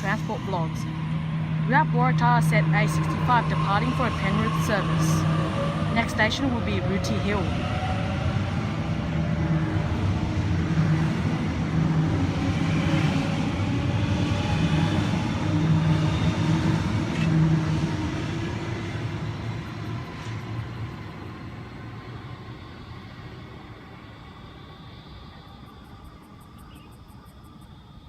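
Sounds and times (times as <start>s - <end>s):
electric train pulling away: 0.0s - 28.0s
traction motors whining: 0.0s - 28.0s.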